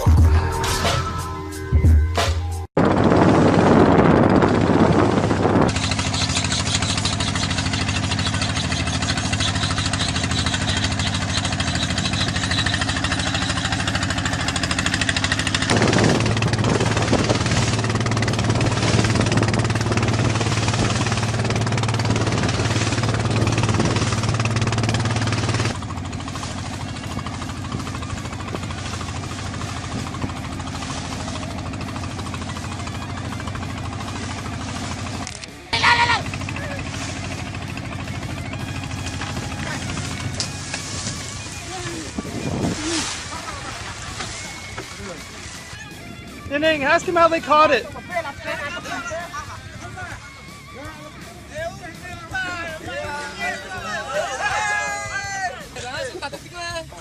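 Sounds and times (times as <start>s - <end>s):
engine running with knocking: 2.8s - 52.8s.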